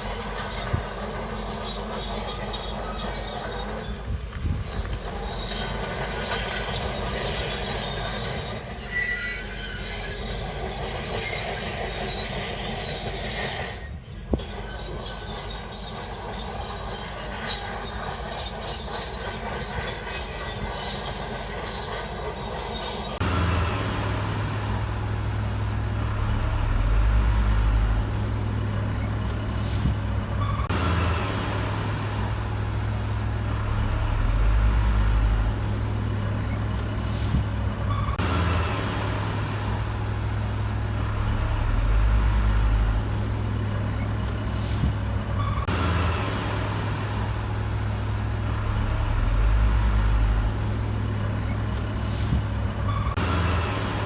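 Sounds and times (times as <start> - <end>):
diesel engine running: 9.5 - 54.0.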